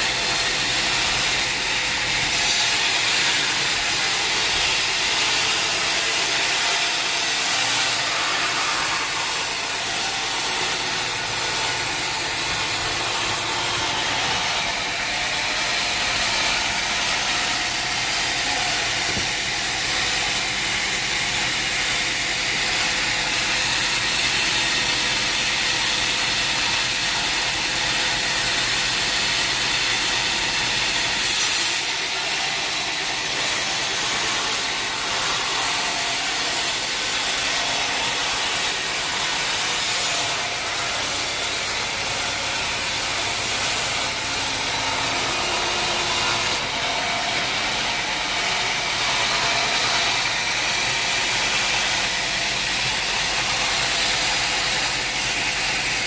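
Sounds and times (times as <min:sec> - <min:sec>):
saw cutting through log: 0:00.0 - 0:56.0
sawmill machinery running: 0:00.0 - 0:56.0.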